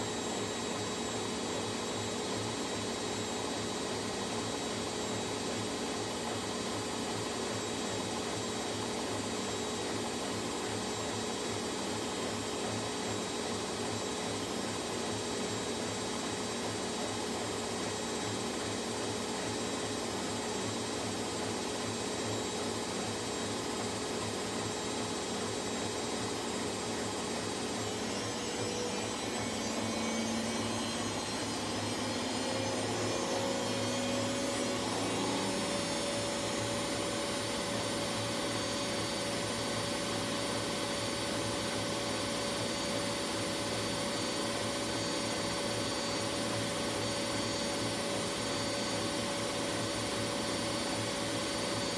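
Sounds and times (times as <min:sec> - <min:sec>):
washing machine spinning: 0:00.0 - 0:51.9.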